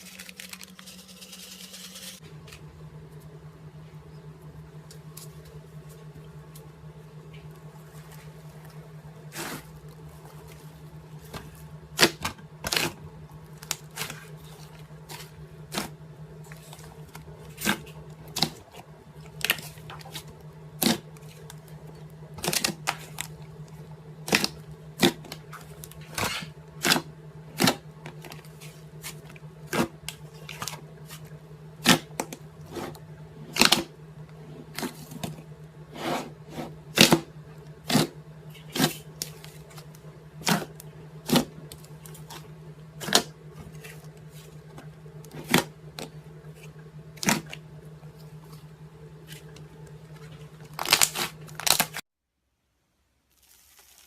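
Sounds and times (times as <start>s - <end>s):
steady low hum: 0.0s - 53.2s.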